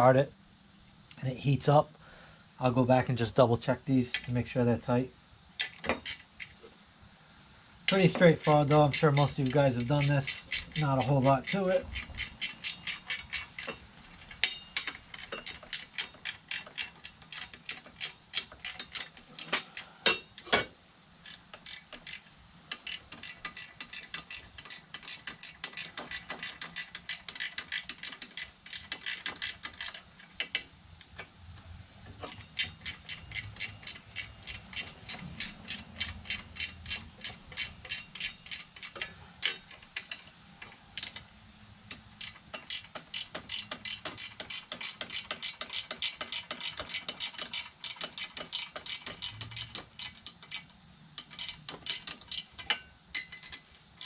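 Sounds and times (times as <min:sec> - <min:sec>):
ratchet wrench clicking: 0:05.6 - 0:06.6, 0:07.9 - 0:20.6, 0:21.2 - 0:31.3, 0:32.2 - 0:53.7.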